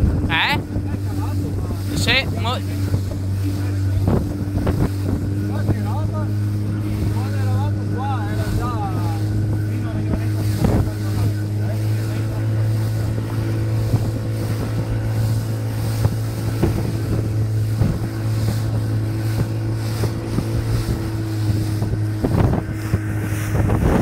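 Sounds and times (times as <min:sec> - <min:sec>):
hull knocking against water: 0:00.0 - 0:24.0
outboard motor running: 0:00.0 - 0:24.0
wind noise on microphone: 0:00.0 - 0:24.0.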